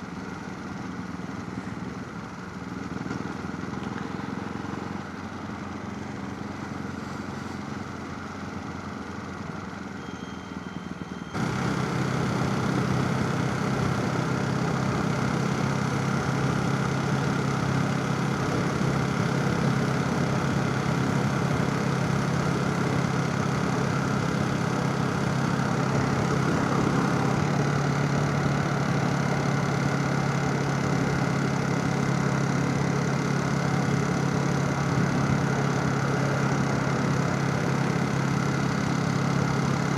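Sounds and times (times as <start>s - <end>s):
motorcycle engine running: 0.0s - 9.8s, 11.4s - 39.9s.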